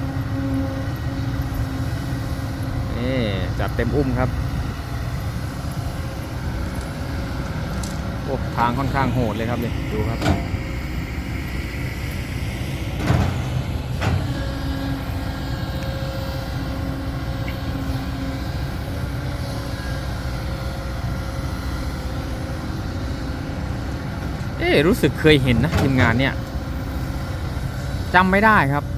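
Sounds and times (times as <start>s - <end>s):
dump truck engine and road noise: 0.0s - 28.9s.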